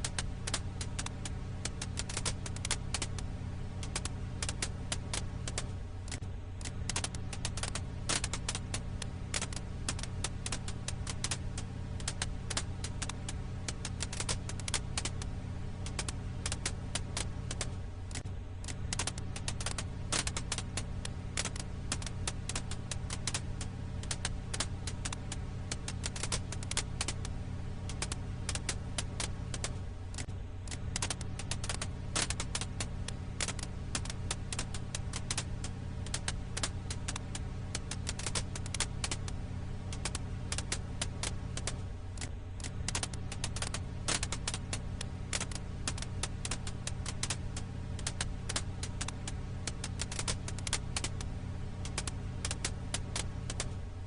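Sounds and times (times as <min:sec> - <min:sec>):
firewood crackling: 0:00.0 - 0:54.0
steady low hum: 0:00.0 - 0:54.0.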